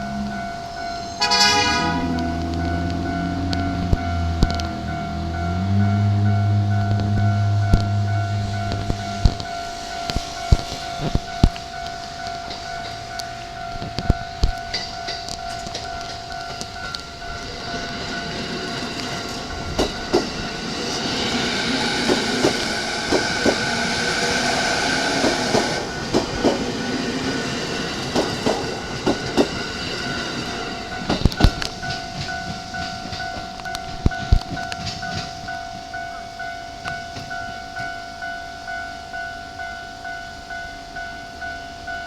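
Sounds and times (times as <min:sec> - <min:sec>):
rail-joint clacks: 0:00.0 - 0:38.3
crossing warning bell ringing: 0:00.0 - 0:42.0
electric train passing: 0:00.0 - 0:42.0.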